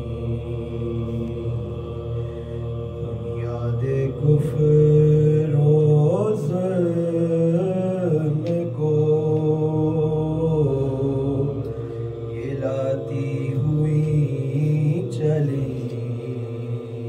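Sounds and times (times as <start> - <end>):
male voices chanting: 0.0 - 17.0.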